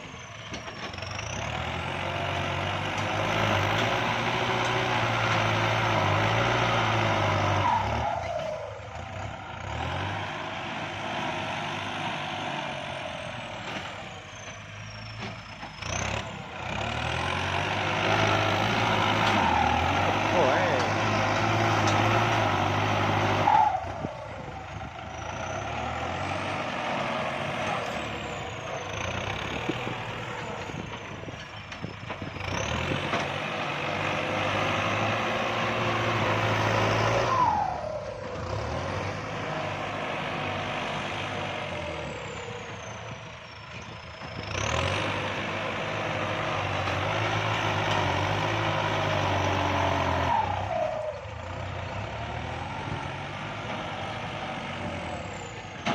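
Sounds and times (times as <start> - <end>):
tractor diesel engine revving: 0.0 - 55.9.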